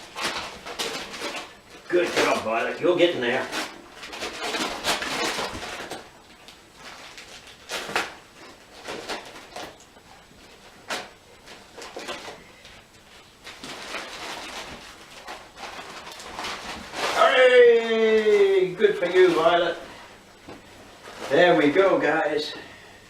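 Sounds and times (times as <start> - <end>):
dog ripping paper packaging: 0.0 - 19.8.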